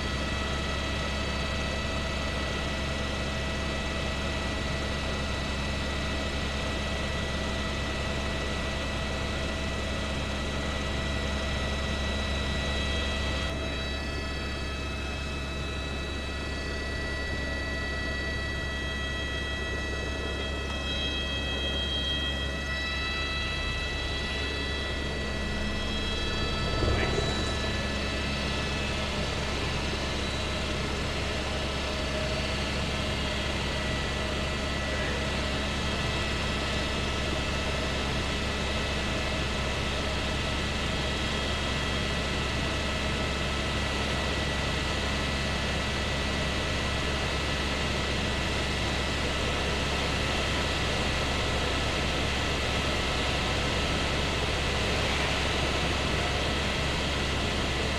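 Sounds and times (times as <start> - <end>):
helicopter rotor and engine drone: 0.0 - 57.9
turbine whine: 0.0 - 57.9.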